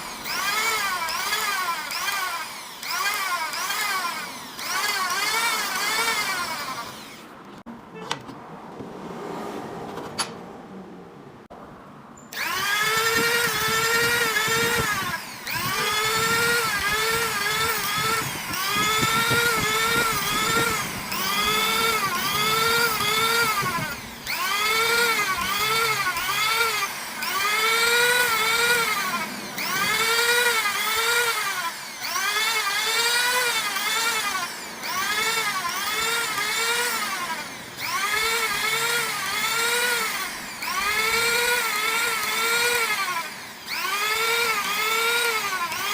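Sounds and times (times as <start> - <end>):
electric sander whining: 0.0 - 8.2, 12.3 - 45.9.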